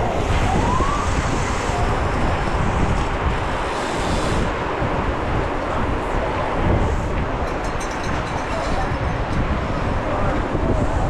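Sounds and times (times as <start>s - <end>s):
tyre and road noise: 0.0s - 11.0s
wind buffeting microphone: 0.0s - 11.0s.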